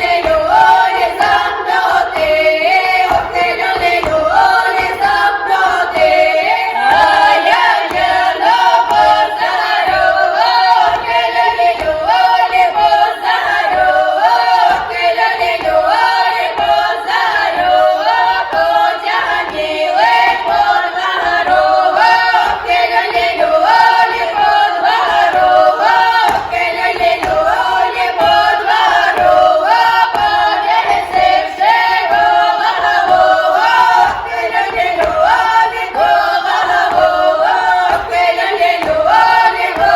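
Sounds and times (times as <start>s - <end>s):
group singing folk song: 0.0s - 39.9s.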